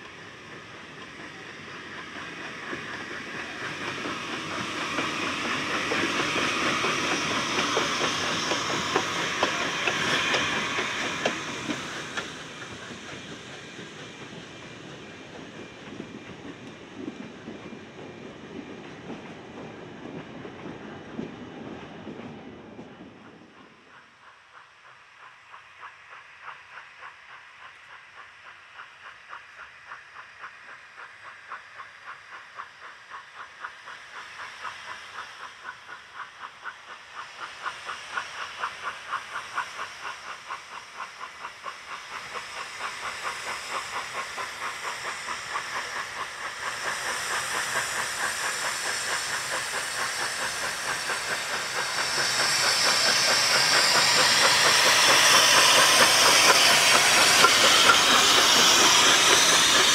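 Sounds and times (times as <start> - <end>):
loud steam hiss: 0.0 - 17.5, 23.8 - 59.9
steam locomotive chuffing: 0.0 - 59.9.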